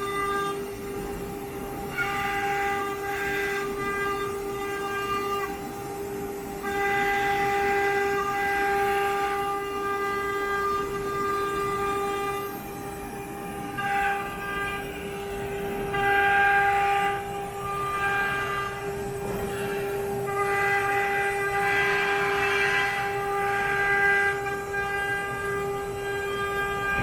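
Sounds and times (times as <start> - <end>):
router spindle high whine: 0.0 - 27.0.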